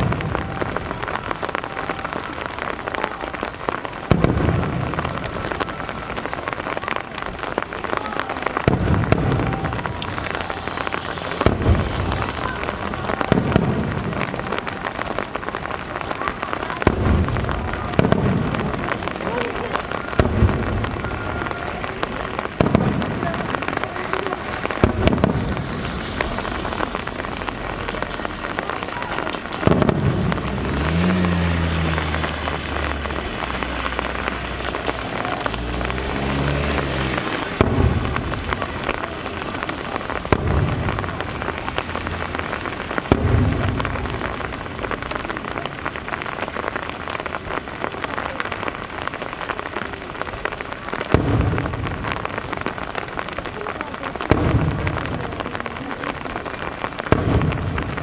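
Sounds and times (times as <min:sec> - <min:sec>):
fireworks booming: 0:00.0 - 0:58.0
rain hissing: 0:00.0 - 0:58.0.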